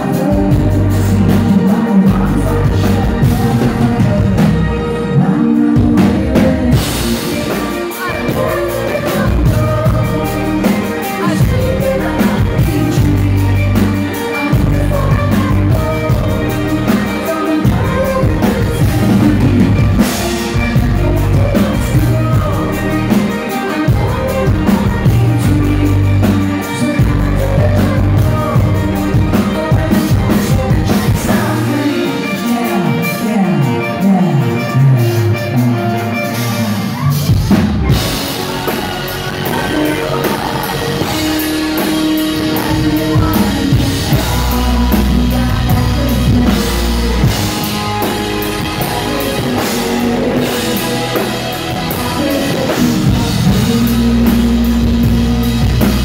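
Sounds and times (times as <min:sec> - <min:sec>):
bass: 0:00.0 - 0:56.0
drums: 0:00.0 - 0:56.0
electric guitar: 0:00.0 - 0:56.0
keyboard: 0:00.0 - 0:56.0
person singing: 0:00.0 - 0:56.0.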